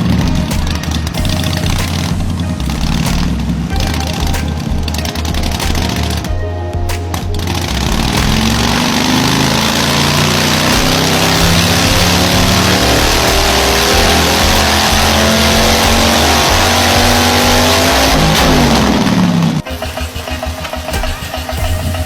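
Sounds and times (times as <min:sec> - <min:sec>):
motorcycle engine revving: 0:00.0 - 0:06.3, 0:07.4 - 0:22.0.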